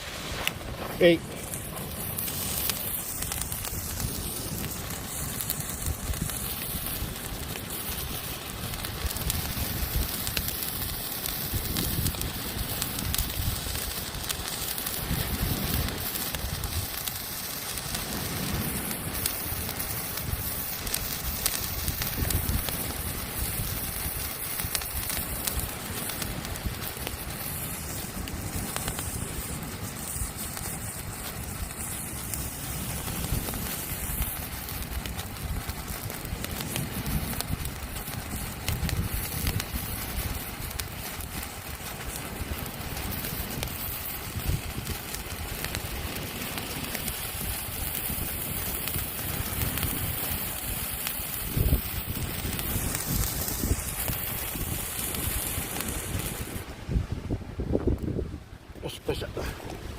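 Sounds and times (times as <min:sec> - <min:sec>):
hand-held firework hissing: 0:00.0 - 0:59.9
wind on microphone: 0:00.0 - 0:59.9.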